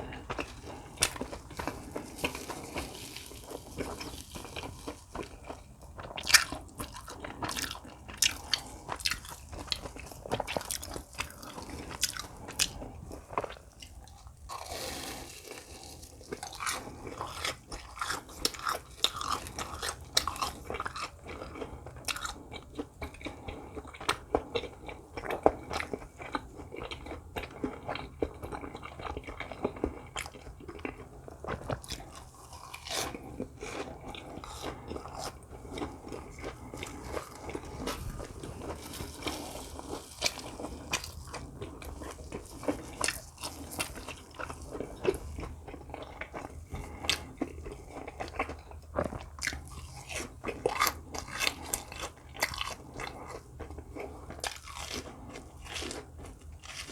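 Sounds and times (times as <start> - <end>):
person chewing crunchy snack: 0.0 - 56.9.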